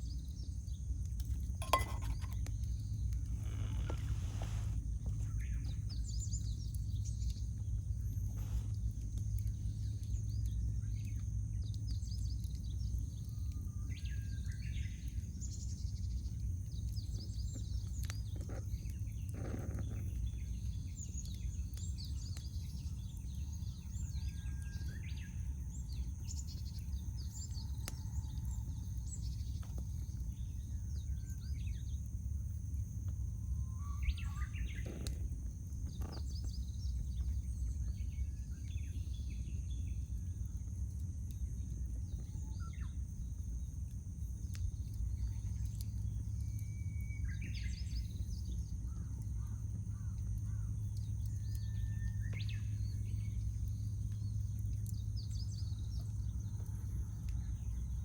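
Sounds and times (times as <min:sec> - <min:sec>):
steady low rumble: 0:00.0 - 0:14.0, 0:14.6 - 0:58.0
small birds chirping: 0:00.0 - 0:58.0
campfire pops: 0:00.1 - 0:58.0.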